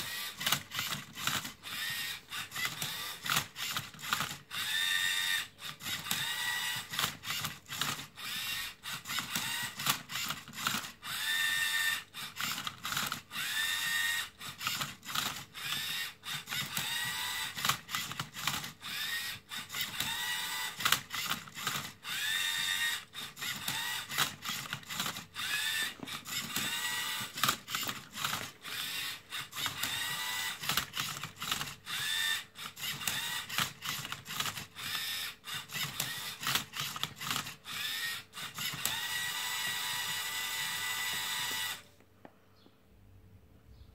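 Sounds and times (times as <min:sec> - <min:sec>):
robot motor whines: 0:00.0 - 0:41.8.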